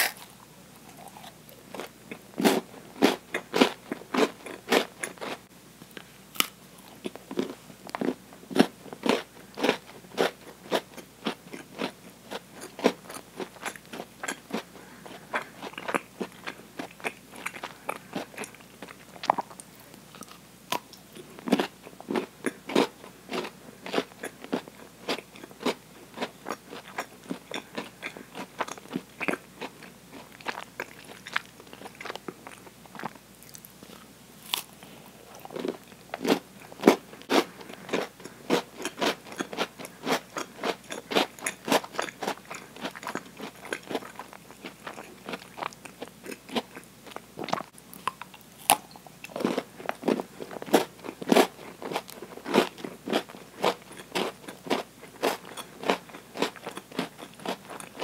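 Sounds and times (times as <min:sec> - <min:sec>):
chocolate bar crunching: 0:00.0 - 0:58.0.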